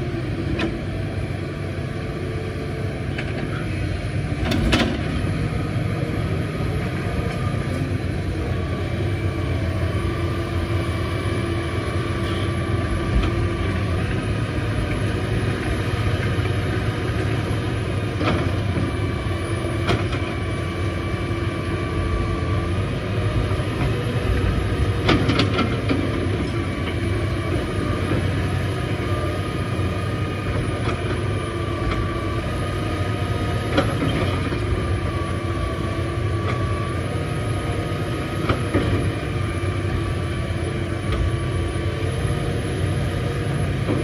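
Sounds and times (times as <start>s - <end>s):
diesel engines rumbling: 0.0s - 44.0s.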